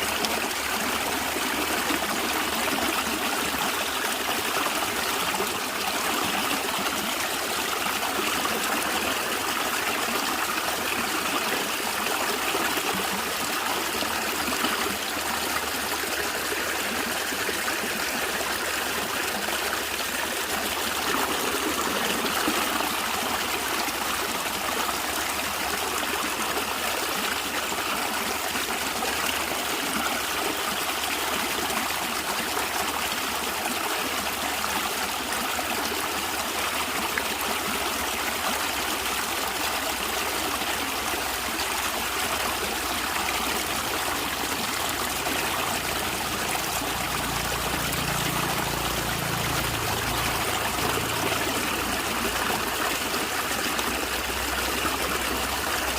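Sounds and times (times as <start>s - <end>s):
stream gurgling and trickling: 0.0s - 55.9s.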